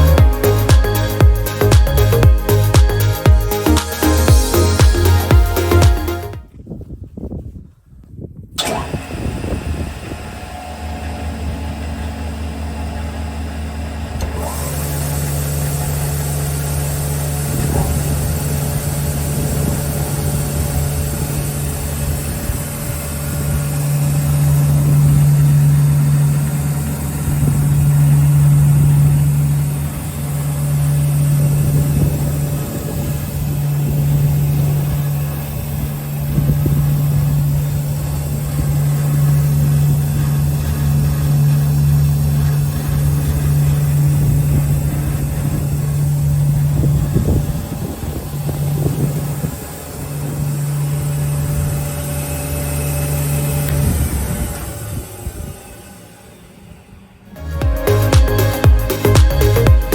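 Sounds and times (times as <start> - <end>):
panel saw motors humming: 8.7 - 59.6.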